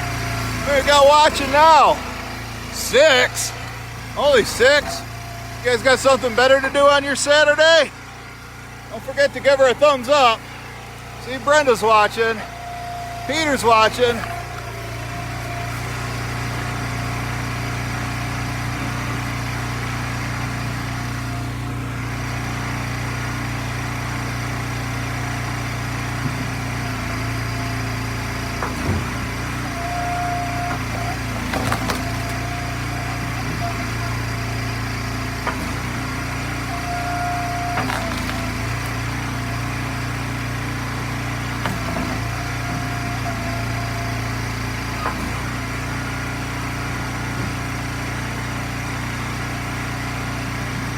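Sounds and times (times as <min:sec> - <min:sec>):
knocks of wood splitting: 0:00.0 - 0:06.7, 0:10.4 - 0:21.5, 0:22.4 - 0:50.9
log splitter engine running: 0:00.0 - 0:50.9.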